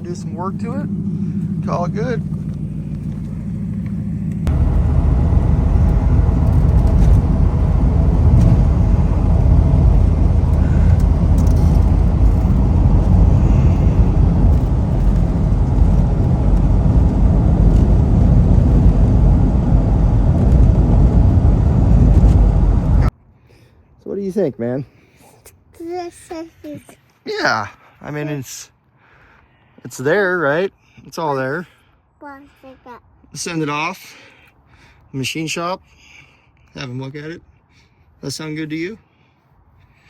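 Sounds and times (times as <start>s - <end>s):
engine rumble and road noise: 0.0s - 27.2s, 28.0s - 40.0s.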